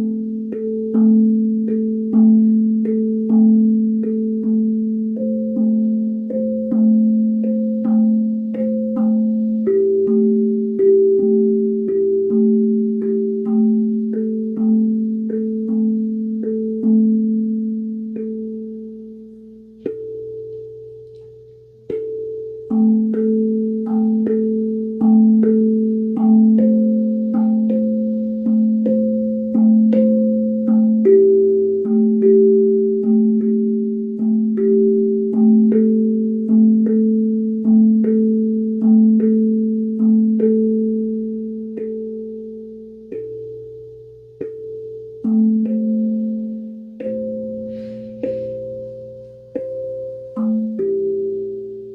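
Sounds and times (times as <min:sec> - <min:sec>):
steel tongue drum notes: 0:00.0 - 0:51.9.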